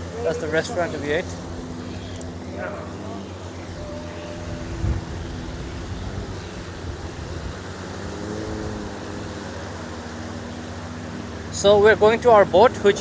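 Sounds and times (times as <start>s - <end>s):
beach noise: 0.0s - 13.0s
boat engine humming: 0.0s - 13.0s.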